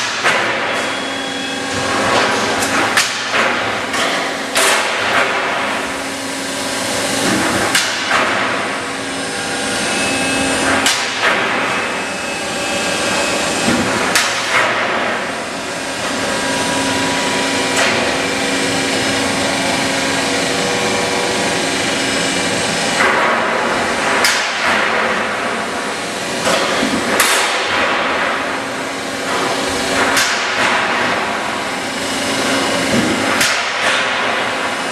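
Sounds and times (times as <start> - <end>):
press machine hum: 0.0 - 34.9.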